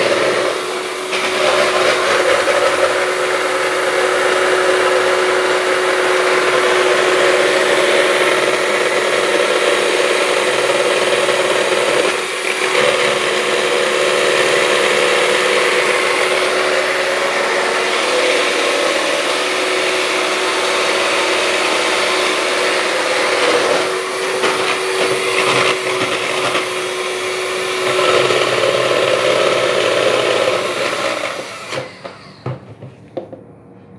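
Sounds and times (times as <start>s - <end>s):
electric hand mixer whining: 0.0s - 32.8s
mixer beaters knocking: 0.0s - 33.5s.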